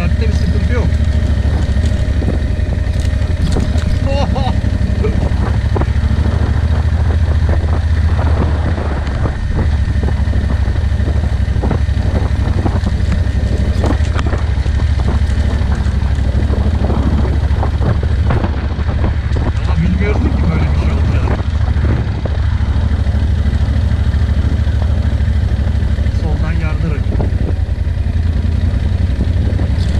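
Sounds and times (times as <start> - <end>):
vehicle engine and road rumble: 0.0 - 29.9.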